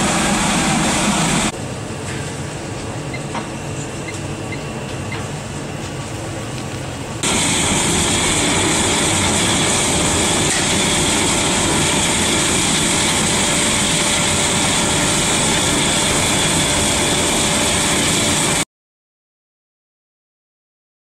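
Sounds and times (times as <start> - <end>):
burner flame roaring: 0.0 - 18.6.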